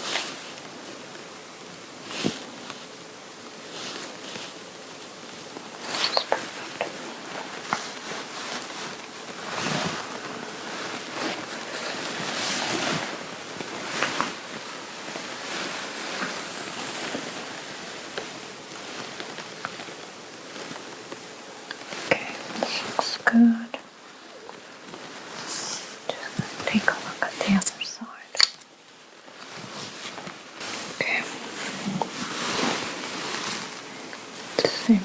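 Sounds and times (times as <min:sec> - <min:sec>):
fabric rustling: 0:00.0 - 0:35.0.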